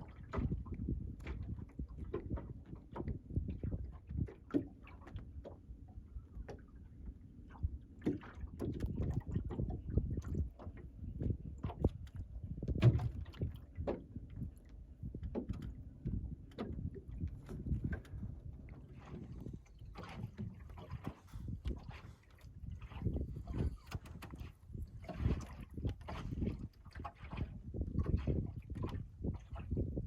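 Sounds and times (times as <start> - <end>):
small knocks from boat: 0.0 - 30.0
water lapping against boat hull: 0.0 - 30.0.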